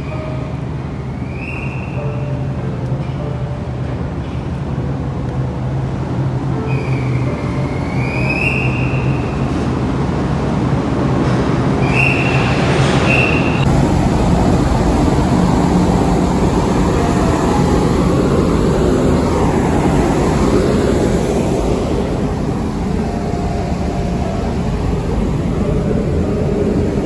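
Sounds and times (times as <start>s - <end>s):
ship machinery rumble: 0.0s - 27.0s.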